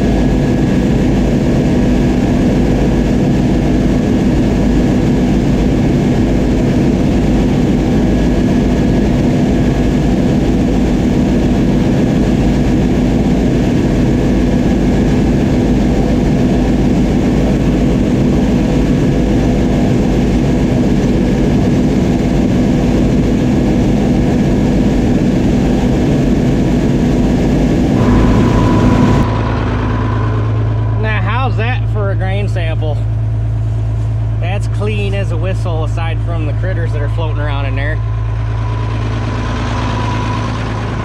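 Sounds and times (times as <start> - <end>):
combine harvester running: 0.0 - 41.0
lower engine tone: 0.0 - 41.0.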